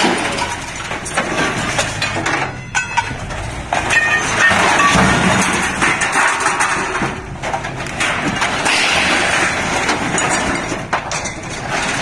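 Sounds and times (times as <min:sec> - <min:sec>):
scrap metal clattering and crashing: 0:00.0 - 0:12.0.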